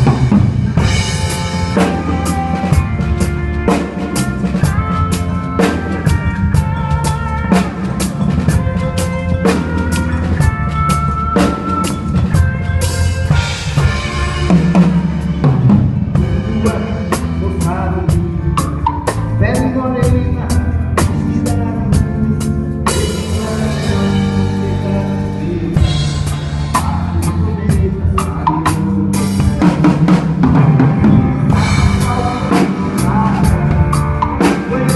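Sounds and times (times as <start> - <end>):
live band playing: 0.0 - 34.9.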